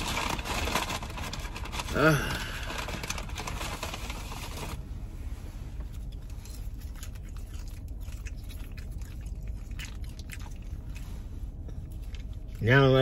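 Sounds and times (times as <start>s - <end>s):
rustling: 0.0s - 12.6s
low steady hum: 0.0s - 13.0s.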